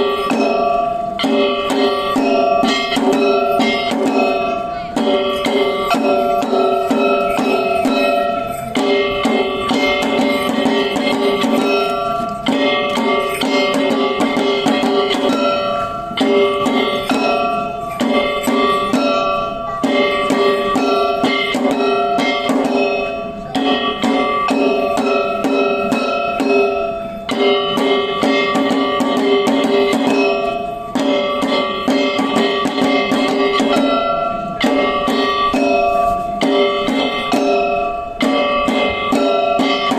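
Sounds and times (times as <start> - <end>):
drums beaten fast: 0.0 - 39.9
ringing pitched tones: 0.0 - 39.9.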